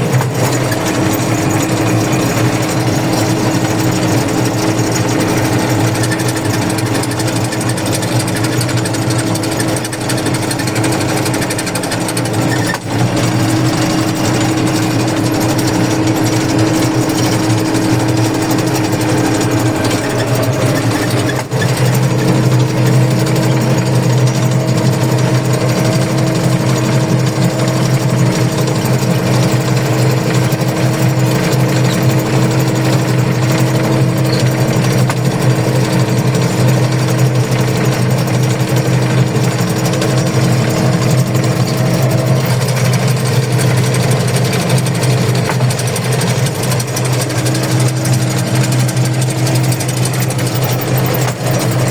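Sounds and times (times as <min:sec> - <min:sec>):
diesel engine running with rattle: 0:00.0 - 0:51.9.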